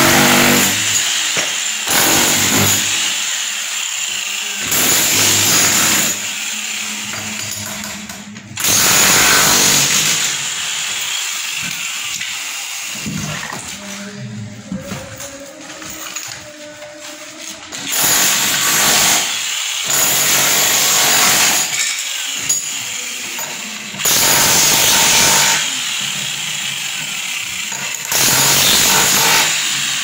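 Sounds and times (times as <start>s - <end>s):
power tool running in bursts: 0.0s - 7.6s, 8.6s - 13.1s, 17.8s - 30.0s.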